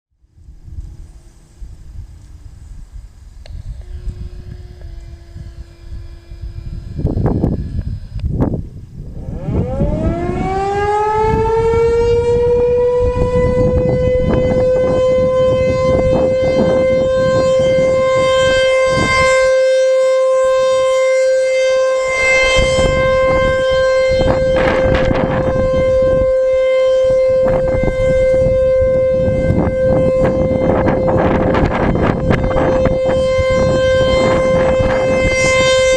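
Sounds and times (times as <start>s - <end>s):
low gusty noise: 0.2s - 35.9s
tornado siren winding up: 0.4s - 35.9s.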